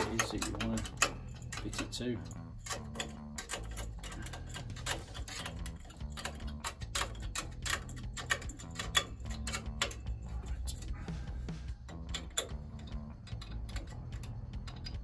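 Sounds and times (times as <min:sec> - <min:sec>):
small metal clicks and taps: 0:00.0 - 0:11.0, 0:11.8 - 0:15.0.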